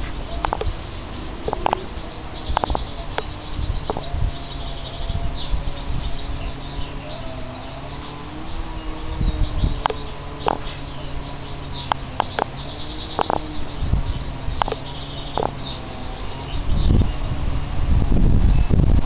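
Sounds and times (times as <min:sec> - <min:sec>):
birds twittering and trilling: 0:00.0 - 0:19.0
steady low hum: 0:00.0 - 0:19.0.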